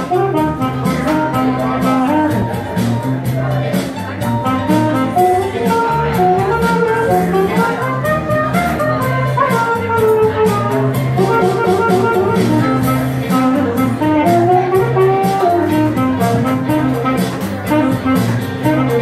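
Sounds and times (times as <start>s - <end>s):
backing track with bass and beat: 0.0s - 19.0s
saxophone improvising jazzy melody: 0.0s - 19.0s.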